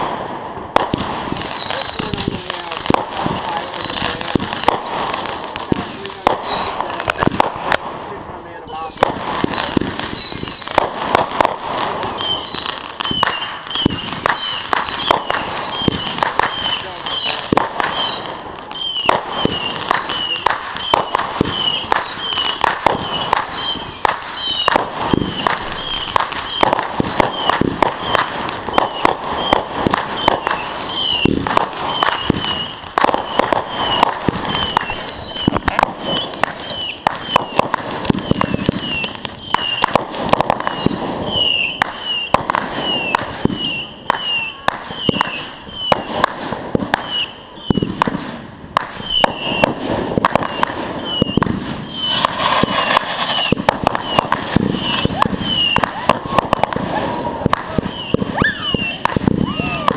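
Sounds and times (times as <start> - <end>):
fireworks cracking and banging: 0.0 - 59.9.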